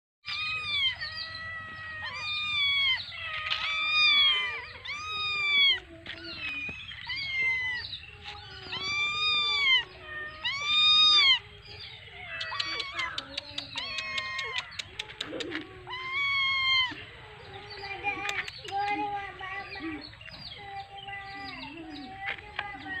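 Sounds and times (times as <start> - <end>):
kittens mewing: 0.3 - 20.0.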